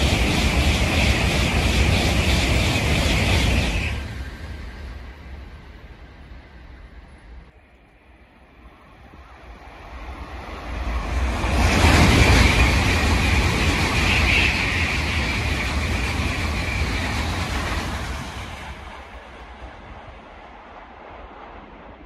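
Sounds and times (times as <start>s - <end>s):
train passing through station: 0.0s - 22.0s.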